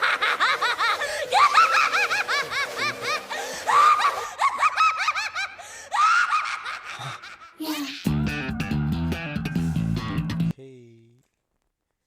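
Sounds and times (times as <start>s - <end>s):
background music: 0.0s - 10.5s.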